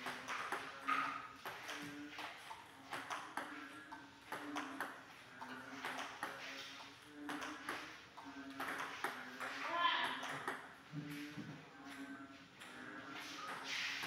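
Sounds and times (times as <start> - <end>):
balls bouncing on table: 0.0 - 14.0
table tennis balls hitting paddles: 0.0 - 14.0.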